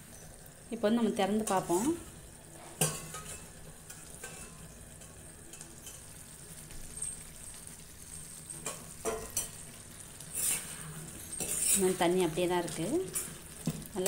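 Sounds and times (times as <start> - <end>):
gravy sizzling in pan: 0.0 - 14.0.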